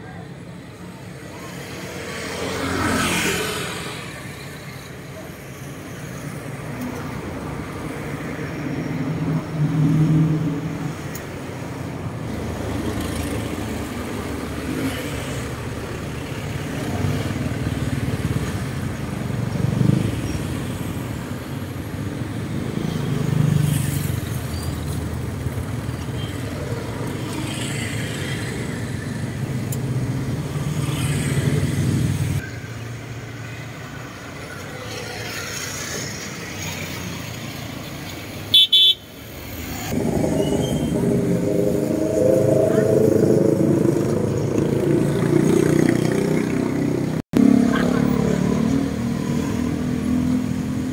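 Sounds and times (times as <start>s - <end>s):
cars passing: 0.0s - 50.9s.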